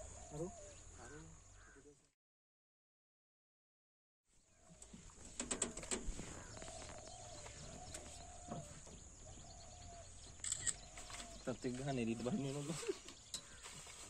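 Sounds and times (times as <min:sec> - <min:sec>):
bird calling: 0:00.0 - 0:02.0, 0:04.5 - 0:14.0.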